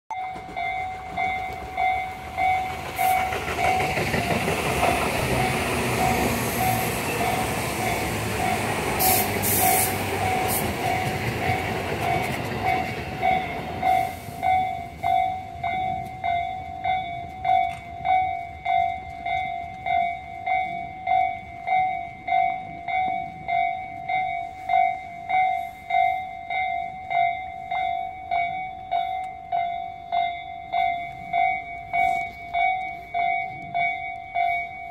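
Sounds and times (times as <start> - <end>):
level-crossing warning bell: 0.1 - 34.9
train wheels rumbling on rail: 0.1 - 34.9.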